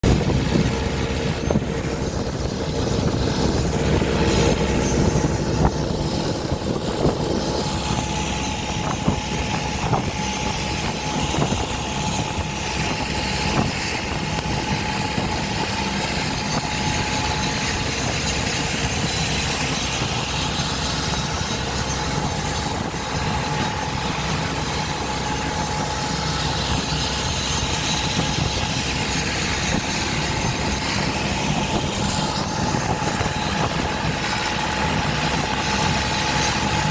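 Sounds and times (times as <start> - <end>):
boat engine rumbling: 0.0 - 36.9.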